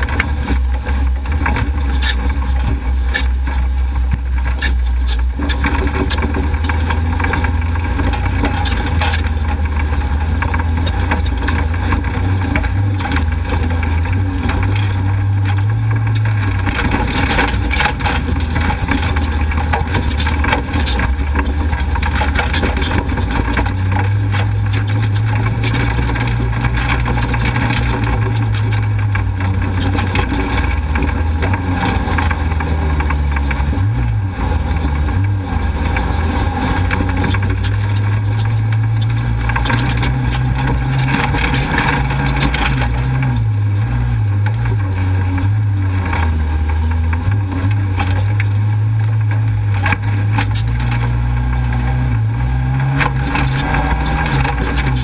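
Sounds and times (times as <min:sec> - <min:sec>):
off-road vehicle engine running hard: 0:00.0 - 0:55.0
rattling and road noise: 0:00.0 - 0:55.0.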